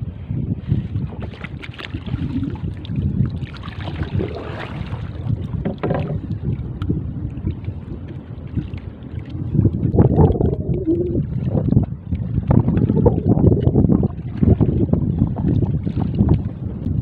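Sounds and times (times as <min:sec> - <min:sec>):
wind buffeting microphone: 0:00.0 - 0:17.0
water lapping against canoe: 0:00.1 - 0:17.0.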